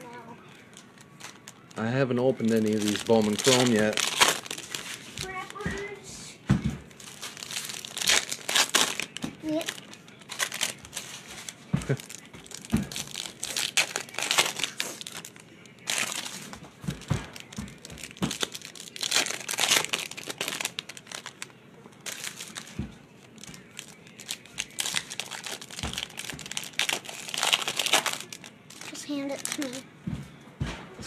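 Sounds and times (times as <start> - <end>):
foil wrappers crinkling: 0.0 - 6.0, 6.9 - 29.8.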